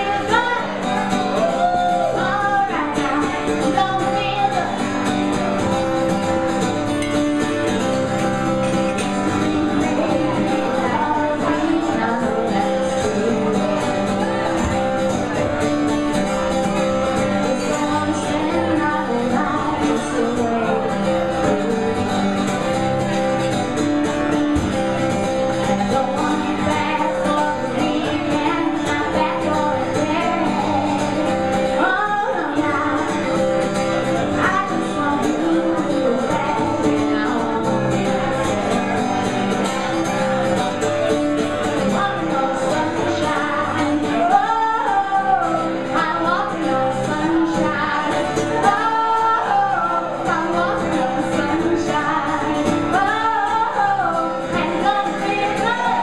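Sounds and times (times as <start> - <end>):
woman singing: 0.0 - 23.6, 24.6 - 40.6, 41.3 - 56.0
acoustic guitar strumming: 0.0 - 56.0.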